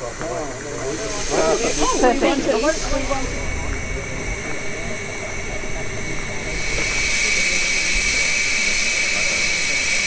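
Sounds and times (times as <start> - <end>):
steam hissing: 0.0 - 10.0.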